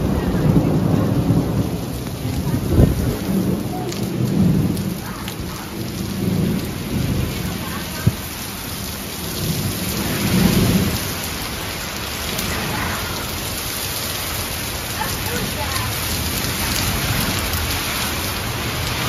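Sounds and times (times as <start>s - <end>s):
heavy rain pouring: 0.0s - 19.0s
thunder rumbling: 0.0s - 19.0s.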